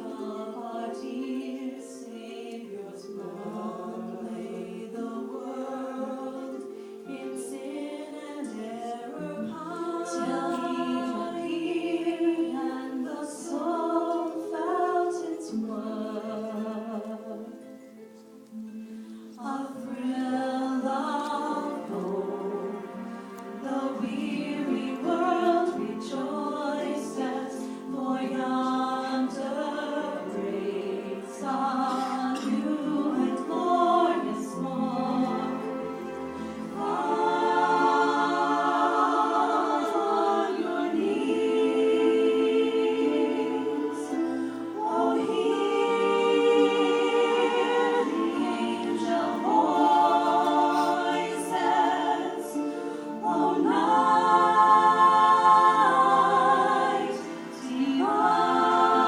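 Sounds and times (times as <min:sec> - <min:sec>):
group singing a cappella: 0:00.0 - 0:17.8, 0:19.3 - 0:59.0.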